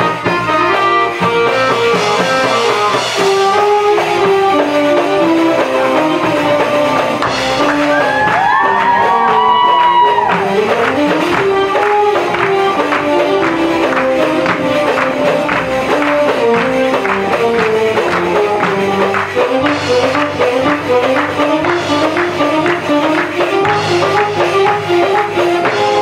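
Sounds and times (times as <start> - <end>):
electronic keyboard melody: 0.0 - 26.0
hand drum rhythm: 0.0 - 26.0.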